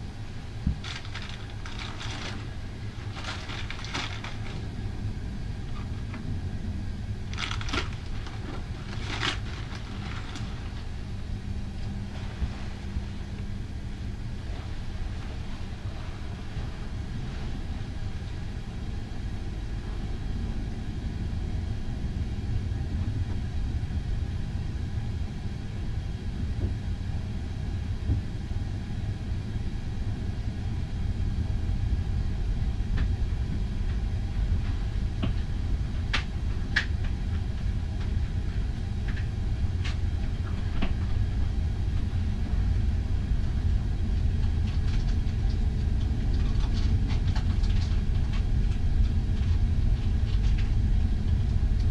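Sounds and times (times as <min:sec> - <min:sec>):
ferry engine rumble: 0:00.0 - 0:51.9.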